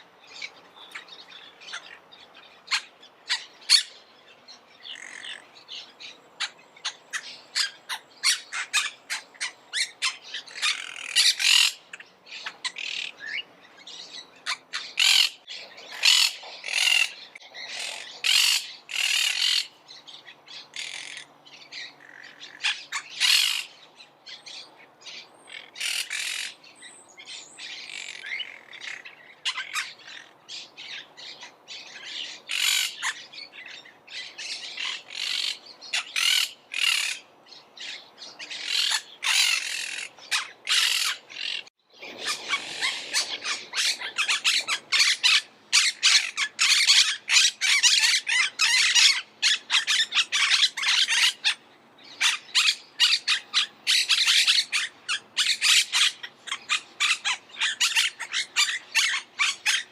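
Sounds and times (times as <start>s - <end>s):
parakeets calling: 0.0s - 59.9s.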